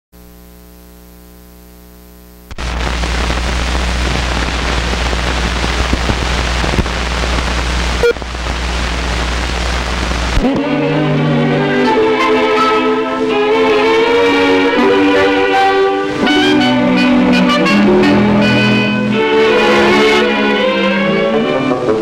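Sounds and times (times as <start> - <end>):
film soundtrack hiss and crackle: 0.2 - 22.0.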